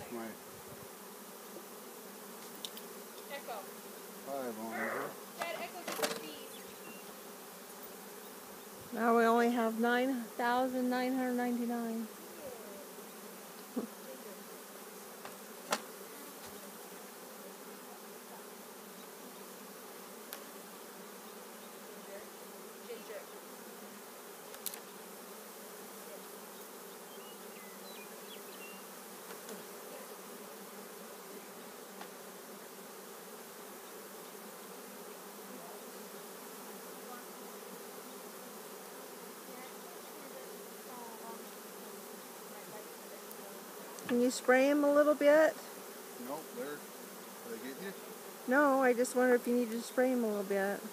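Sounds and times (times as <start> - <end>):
bees buzzing: 0.0 - 50.9.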